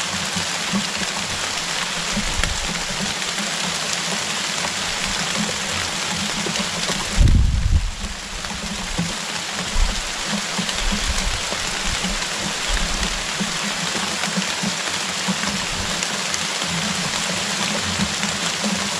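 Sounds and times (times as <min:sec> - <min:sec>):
steady hiss of water: 0:00.0 - 0:18.9.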